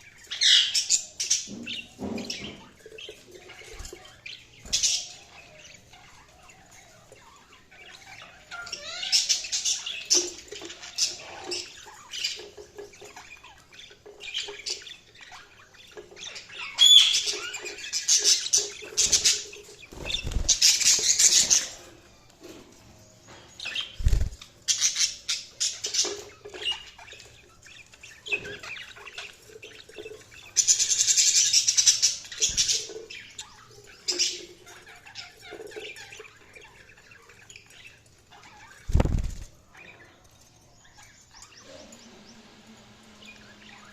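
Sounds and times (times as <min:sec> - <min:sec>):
budgies chirping and warbling: 0:00.0 - 0:43.9.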